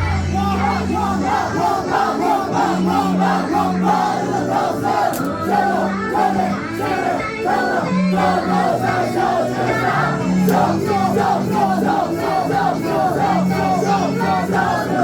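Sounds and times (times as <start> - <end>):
crowd chanting: 0.0 - 15.0
music with low notes: 0.0 - 15.0.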